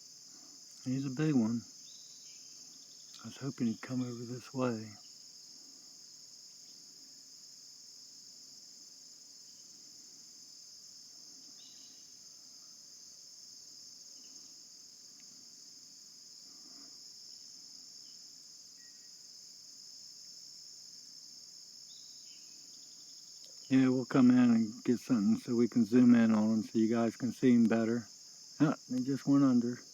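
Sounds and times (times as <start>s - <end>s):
crickets chorus: 0.0s - 29.9s
faint insect chirps: 0.0s - 29.9s.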